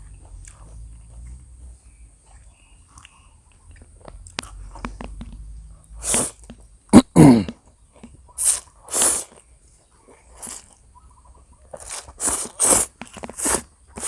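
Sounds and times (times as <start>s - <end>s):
breathy mouth sounds eating: 0.1s - 6.6s, 7.4s - 11.0s, 11.6s - 14.0s.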